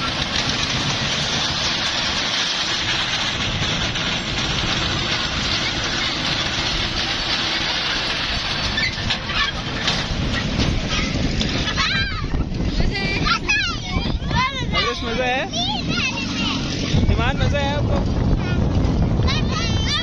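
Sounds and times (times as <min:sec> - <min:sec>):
faint voices: 0:00.0 - 0:20.0
ride-on toy train running: 0:00.0 - 0:20.0.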